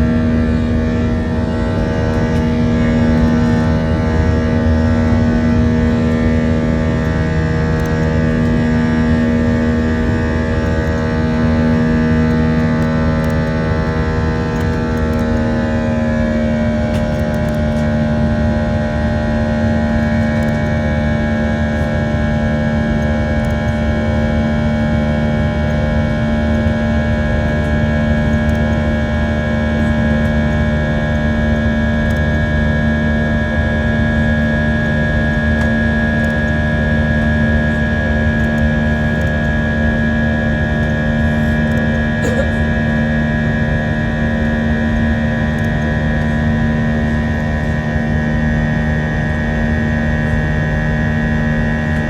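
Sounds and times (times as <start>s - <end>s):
jet engines droning in cabin: 0.0s - 52.0s
whining engine tones: 0.0s - 52.0s.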